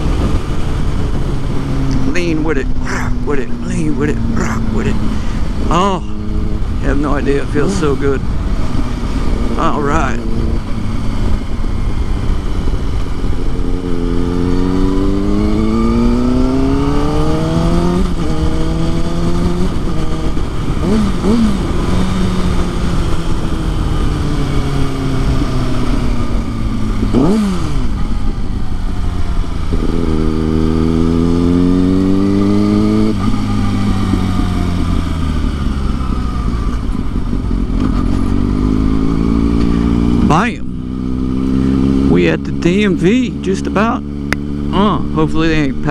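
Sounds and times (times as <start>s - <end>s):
low wind rush: 0.0s - 45.9s
motorcycle engine revving: 0.0s - 45.9s.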